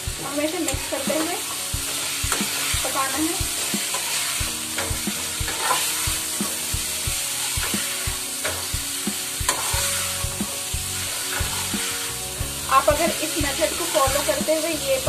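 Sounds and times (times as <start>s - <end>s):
vegetables sizzling in oil: 0.0s - 15.0s
metal spatula scraping pan: 0.1s - 15.0s.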